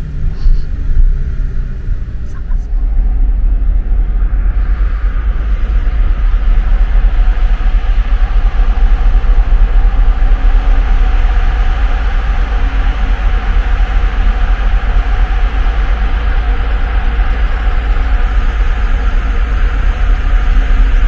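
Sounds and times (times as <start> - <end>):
ship engines rumbling: 0.0 - 21.0
wind buffeting microphone: 0.0 - 21.0.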